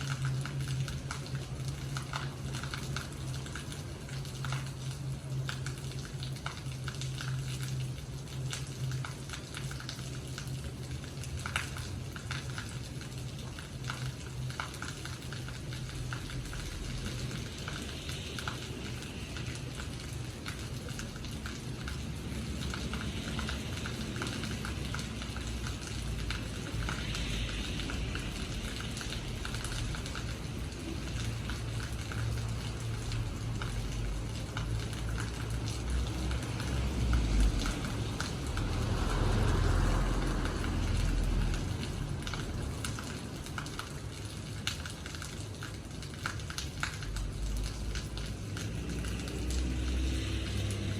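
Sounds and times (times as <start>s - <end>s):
rain pattering on hard surface: 0.0s - 50.9s.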